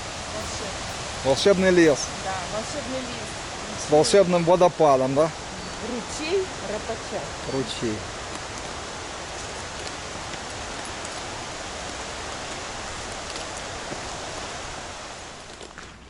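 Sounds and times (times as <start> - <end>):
mountain stream roaring: 0.0 - 15.8.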